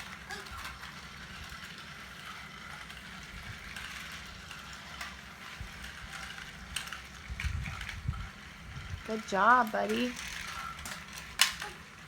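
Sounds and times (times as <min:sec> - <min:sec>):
toy trains whirring on track: 0:00.0 - 0:12.0.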